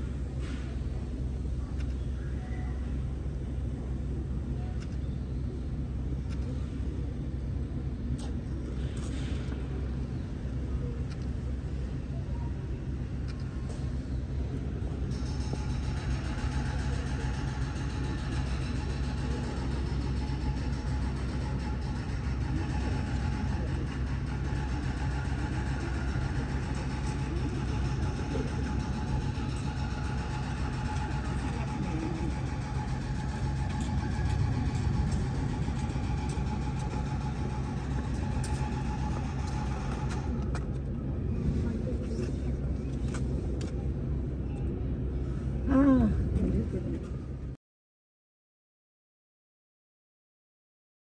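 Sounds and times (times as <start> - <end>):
faint steady whine: 0.0 - 47.6
low machine drone: 0.0 - 47.6
steady low rumble: 0.0 - 47.6.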